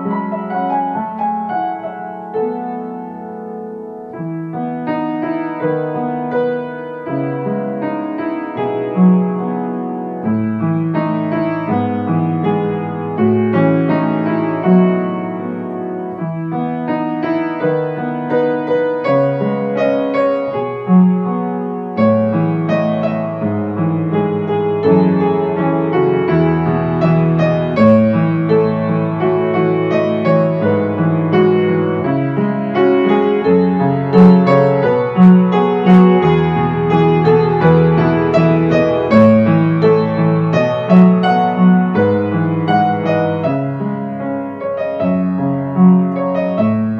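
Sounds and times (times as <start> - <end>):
ambient piano music: 0.0 - 46.9.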